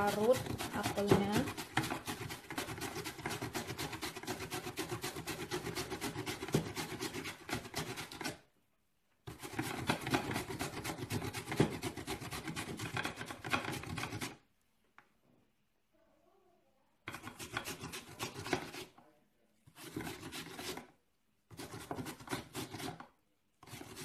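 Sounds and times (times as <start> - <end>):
apple rasping on grater: 0.0 - 8.5, 9.3 - 14.4, 17.1 - 19.0, 19.6 - 24.0.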